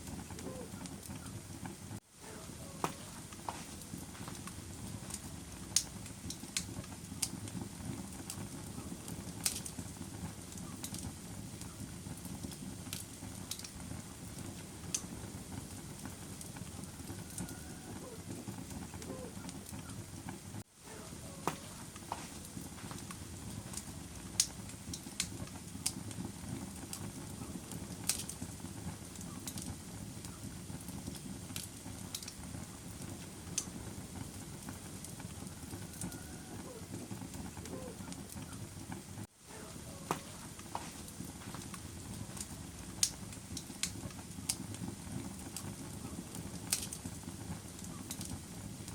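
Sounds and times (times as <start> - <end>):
fire burning in fireplace: 0.0 - 48.9.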